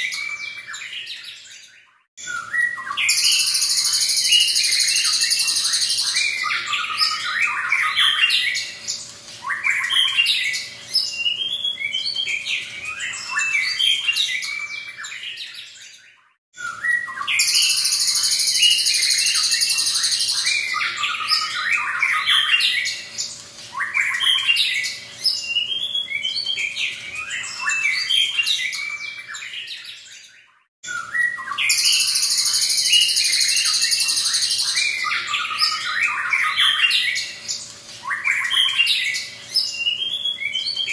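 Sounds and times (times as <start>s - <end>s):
bird singing whistles and trills: 0.0s - 40.9s.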